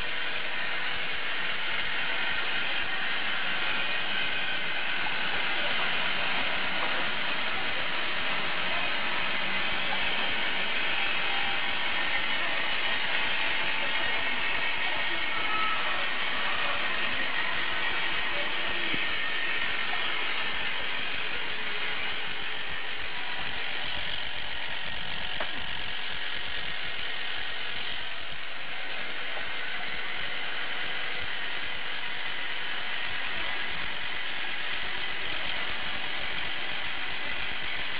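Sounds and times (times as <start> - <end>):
electric motor whirring: 0.0 - 37.9.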